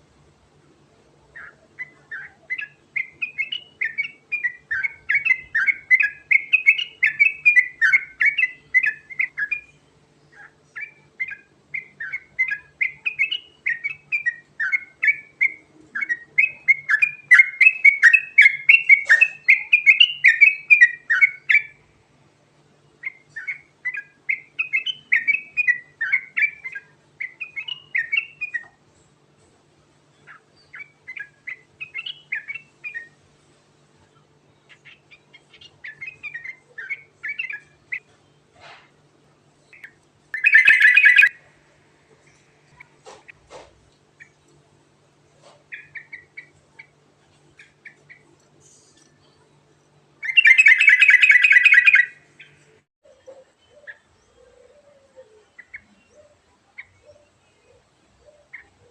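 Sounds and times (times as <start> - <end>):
faint low hum: 0.0 - 58.9
bird singing chirping song: 1.2 - 21.9, 22.8 - 28.8, 30.1 - 33.2, 34.0 - 38.6, 39.6 - 43.4, 45.6 - 58.9.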